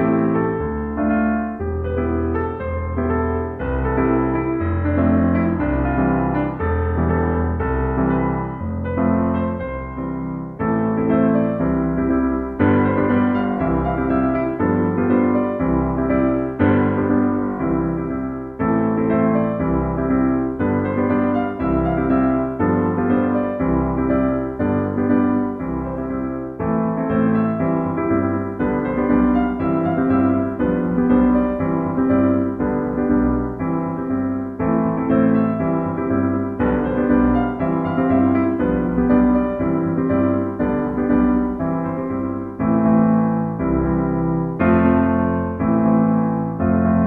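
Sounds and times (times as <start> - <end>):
electric piano chords: 0.0 - 47.0.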